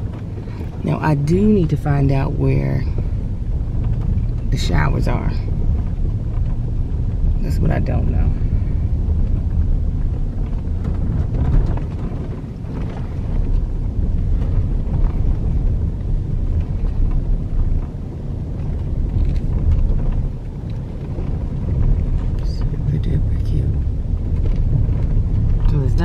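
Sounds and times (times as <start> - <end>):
car driving rumble: 0.0 - 26.0
wind buffeting microphone: 0.0 - 26.0.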